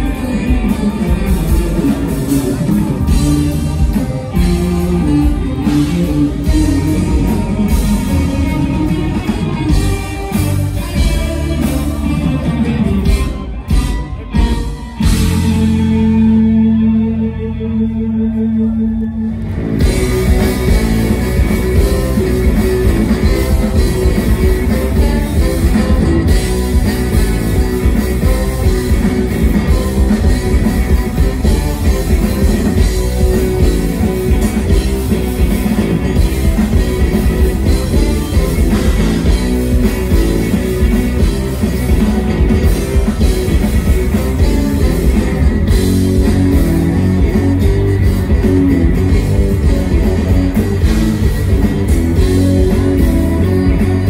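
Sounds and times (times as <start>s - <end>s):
rock band playing loud: 0.0s - 54.0s.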